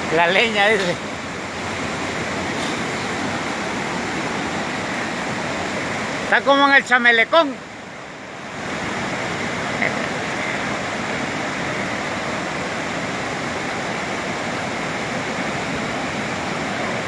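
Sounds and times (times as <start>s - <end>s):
river floodwater rushing: 0.0s - 17.0s.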